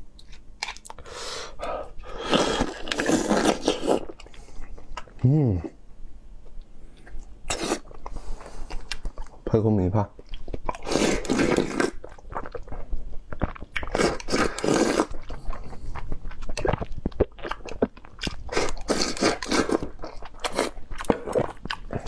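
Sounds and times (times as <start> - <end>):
person chewing food: 0.2 - 5.2, 6.5 - 9.4, 10.2 - 22.0.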